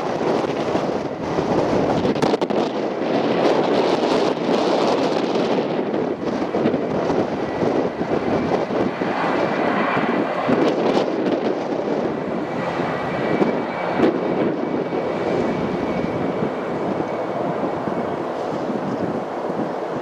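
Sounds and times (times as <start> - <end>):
jet engines rumbling: 0.0 - 20.0
wind noise on microphone: 0.0 - 20.0.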